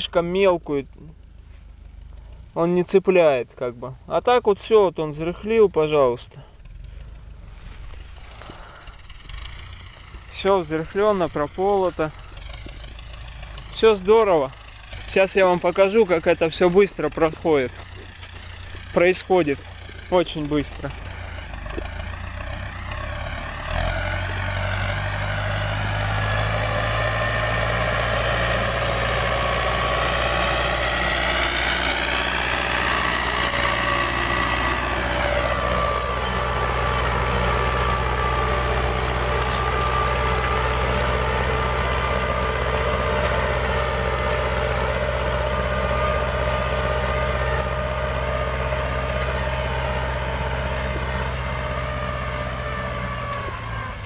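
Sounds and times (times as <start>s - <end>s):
tractor engine passing by: 0.0s - 54.0s.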